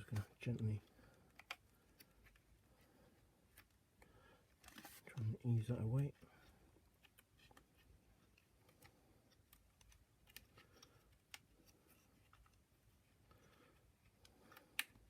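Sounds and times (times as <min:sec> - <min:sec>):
plastic parts clicking and scraping: 0:00.0 - 0:02.6, 0:03.2 - 0:05.4, 0:06.0 - 0:15.0.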